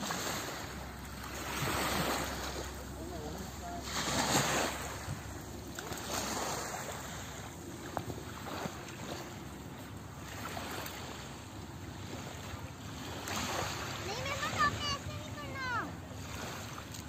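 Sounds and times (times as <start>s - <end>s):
small waves lapping on sand: 0.0s - 17.0s.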